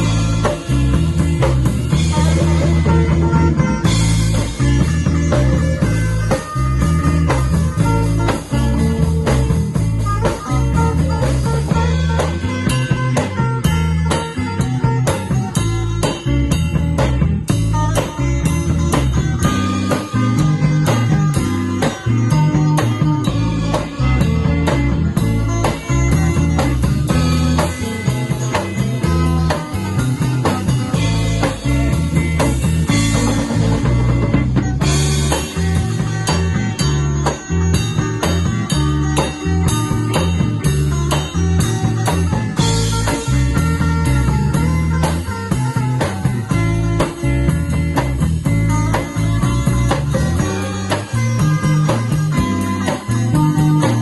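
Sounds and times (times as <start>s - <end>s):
drum and cymbal hits: 0.0s - 54.0s
electric guitar band music: 0.0s - 54.0s.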